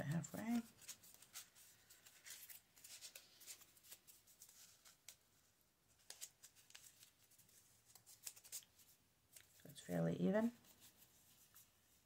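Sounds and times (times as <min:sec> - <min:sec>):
paper strips rustling and crinkling: 0:00.0 - 0:09.8, 0:10.4 - 0:12.0.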